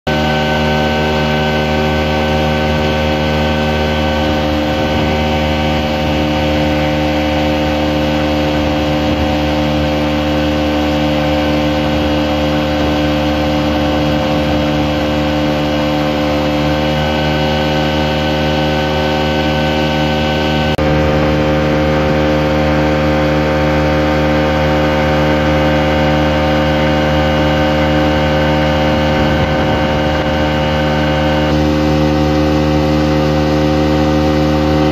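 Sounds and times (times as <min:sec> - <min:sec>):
outboard motor droning: 0:00.1 - 0:34.9.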